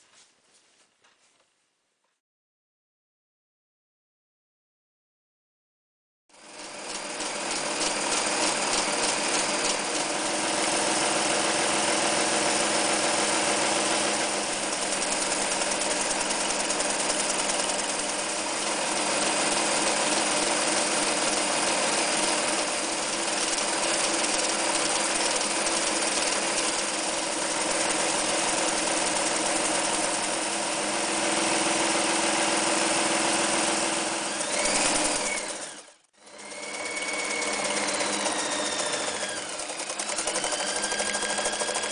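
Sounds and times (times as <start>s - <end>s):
sewing machine stitching: 6.3s - 41.9s.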